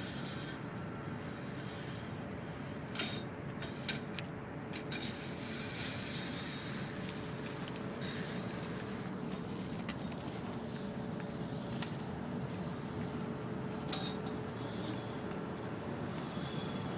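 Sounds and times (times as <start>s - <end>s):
steady background hum: 0.0s - 16.9s.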